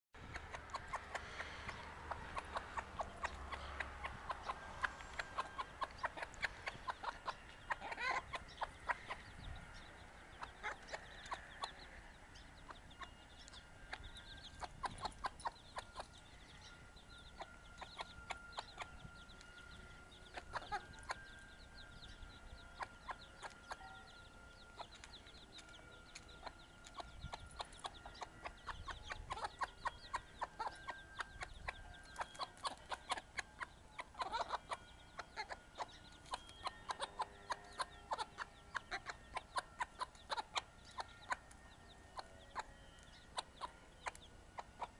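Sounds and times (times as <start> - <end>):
hen clucking: 0.2 - 19.3, 20.2 - 21.3, 22.0 - 44.9
chicks pecking at food: 0.2 - 44.9
chicks peeping: 0.2 - 44.9.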